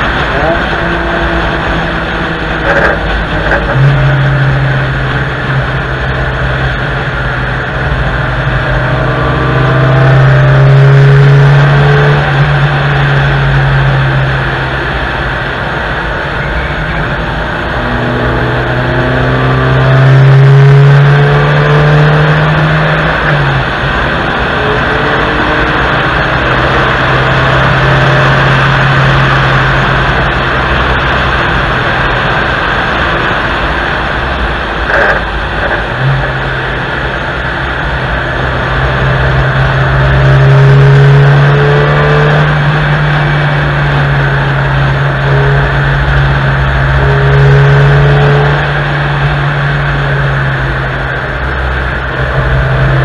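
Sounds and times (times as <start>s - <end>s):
car engine at high revs: 0.0s - 53.0s
road noise: 0.0s - 53.0s.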